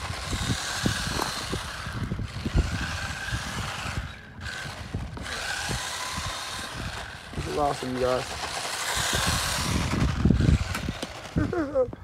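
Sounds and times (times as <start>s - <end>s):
electric motor whine: 0.0s - 11.9s.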